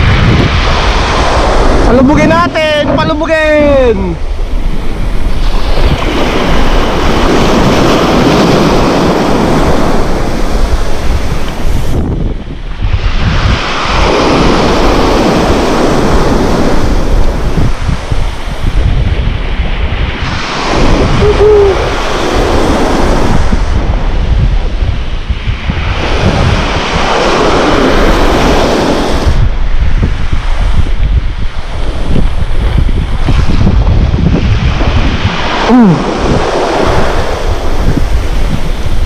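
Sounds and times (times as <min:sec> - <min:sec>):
small waves washing ashore: 0:00.0 - 0:39.0
wind rumbling on microphone: 0:00.0 - 0:39.0.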